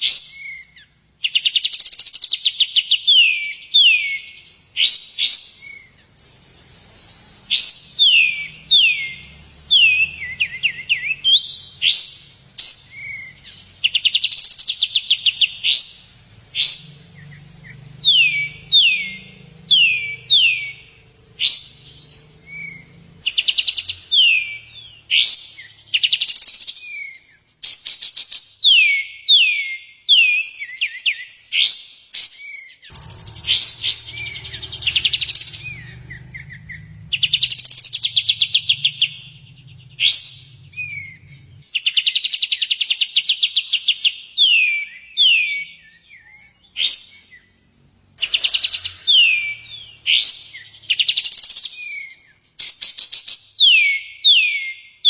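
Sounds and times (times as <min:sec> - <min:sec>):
songbird trills and whistles: 0:00.0 - 0:47.6, 0:48.2 - 0:55.0.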